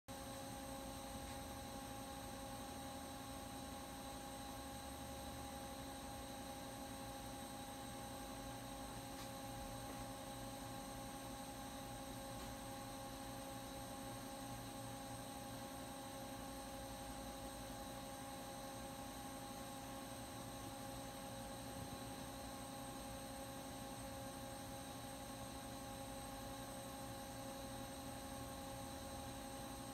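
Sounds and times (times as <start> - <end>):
electrical hum: 0.1 - 29.9
faint steady whines: 0.1 - 29.9.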